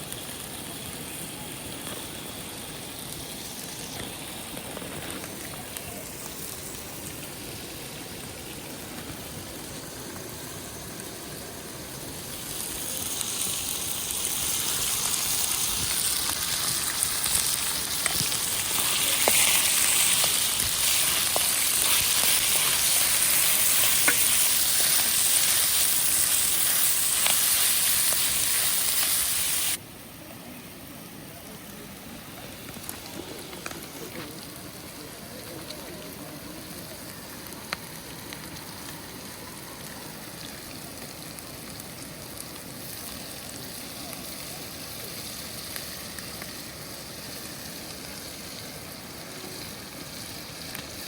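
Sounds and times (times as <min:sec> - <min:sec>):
food sizzling in a pan: 0:00.0 - 0:29.8, 0:30.5 - 0:51.0.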